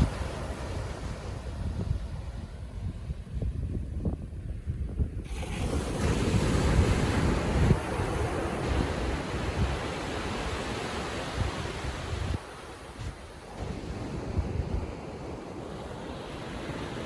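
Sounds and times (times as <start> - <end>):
ocean surf washing onto beach: 0.0 - 3.3, 5.2 - 17.0
wind rumble on microphone: 0.0 - 17.0.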